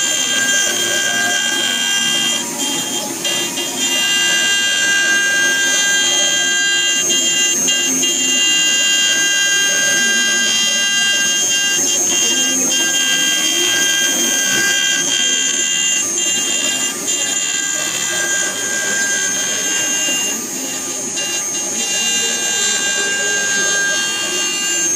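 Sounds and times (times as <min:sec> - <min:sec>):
router spindle high whine: 0:00.0 - 0:24.9.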